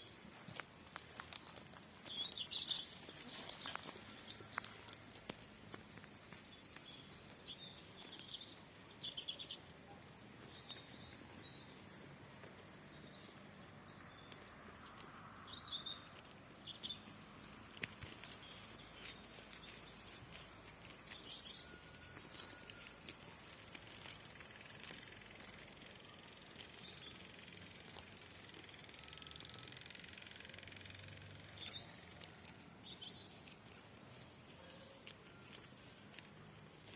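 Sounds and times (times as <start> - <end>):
small songbirds chirping: 0.0 - 36.9.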